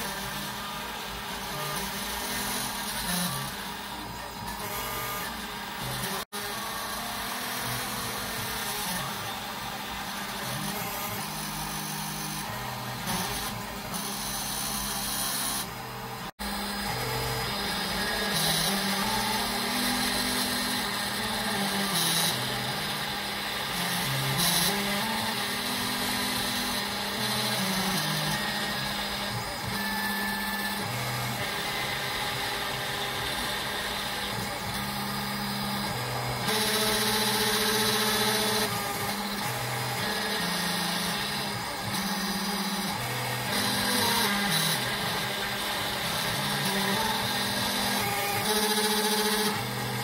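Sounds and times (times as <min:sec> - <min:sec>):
motors humming in changing pitch: 0:00.0 - 0:50.0
spindle engraving plastic: 0:00.0 - 0:50.0.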